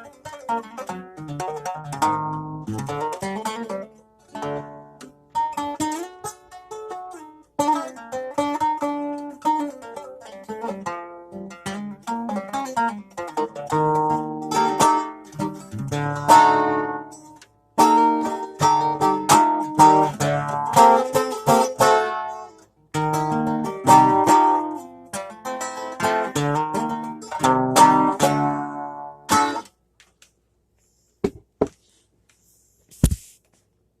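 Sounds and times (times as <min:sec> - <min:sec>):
plucked string instrument: 0:00.0 - 0:29.8.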